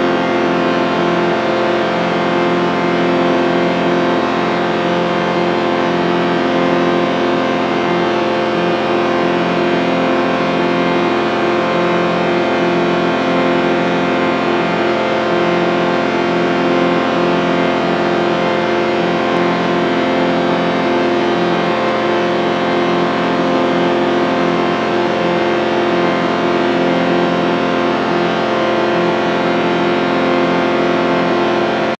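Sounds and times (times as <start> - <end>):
distorted chord drone: 0.0 - 32.0.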